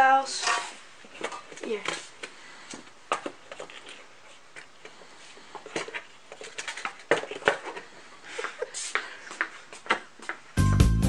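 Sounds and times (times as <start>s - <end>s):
soft rustling: 0.3s - 10.5s.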